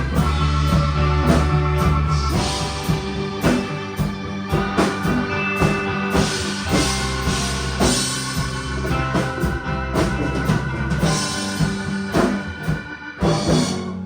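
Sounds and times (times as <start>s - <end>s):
band playing instrumental: 0.0s - 14.0s
bass drum and snare hits: 0.0s - 14.0s.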